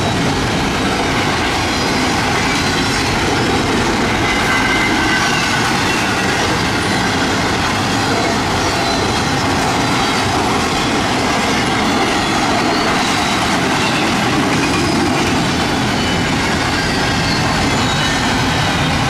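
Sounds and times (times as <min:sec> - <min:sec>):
freight train wheels rolling on rails: 0:00.0 - 0:19.0.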